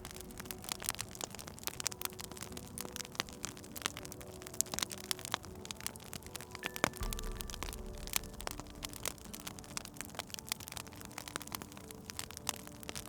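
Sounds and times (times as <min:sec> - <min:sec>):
soft background music: 0:00.0 - 0:13.0
wood fire crackling and popping: 0:00.0 - 0:13.0.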